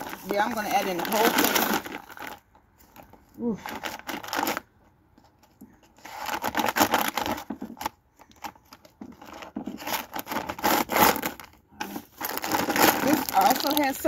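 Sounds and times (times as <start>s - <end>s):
plastic bag crinkling: 0.0s - 4.8s, 5.4s - 14.0s.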